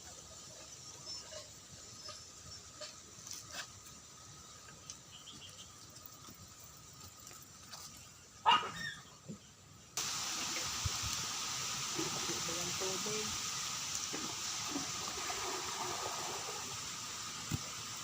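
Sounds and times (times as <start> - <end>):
steady hiss: 0.0 - 8.4, 9.6 - 18.0.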